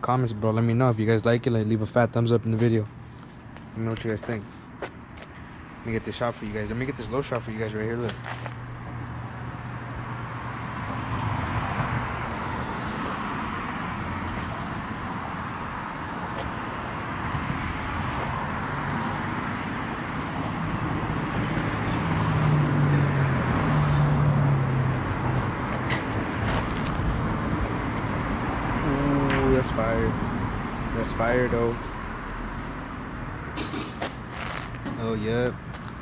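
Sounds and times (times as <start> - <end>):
road traffic passing: 0.0 - 36.0
vehicle engine passing: 5.4 - 36.0.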